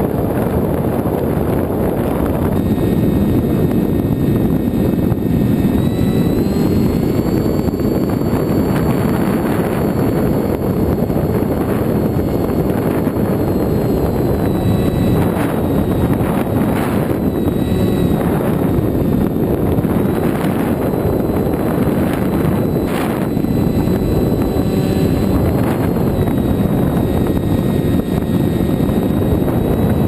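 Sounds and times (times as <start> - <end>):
electric motor whine: 0.0 - 30.0
wind rushing: 0.0 - 30.0.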